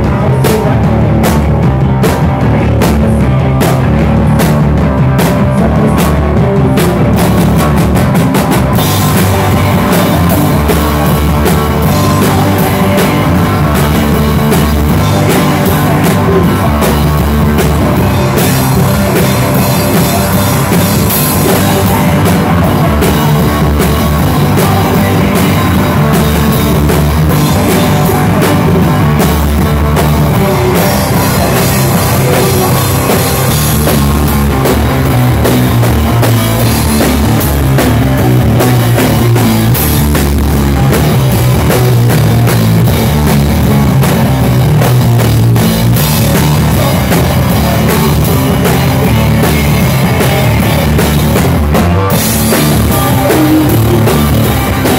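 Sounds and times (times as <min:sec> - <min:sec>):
drum kit: 0:00.0 - 0:54.9
electric guitar: 0:00.0 - 0:54.9.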